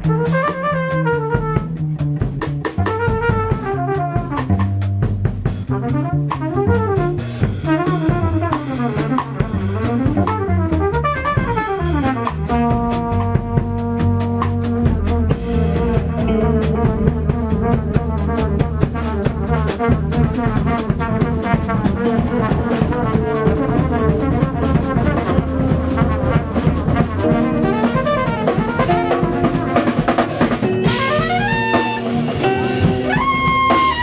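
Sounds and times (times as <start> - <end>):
trumpet solo: 0.0 - 4.9, 5.6 - 34.0
bass: 0.0 - 34.0
drum kit: 0.0 - 34.0.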